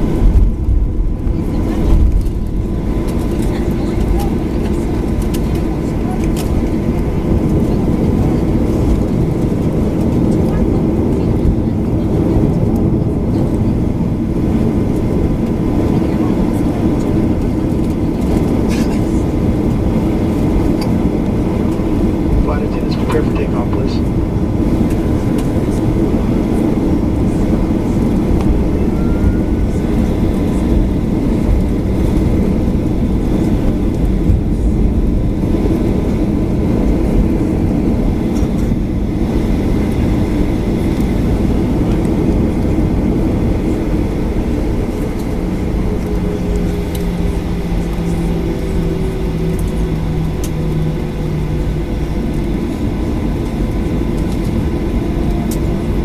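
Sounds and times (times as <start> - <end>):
airplane cabin engine rumble: 0.0 - 56.0
steady low hum: 0.0 - 56.0.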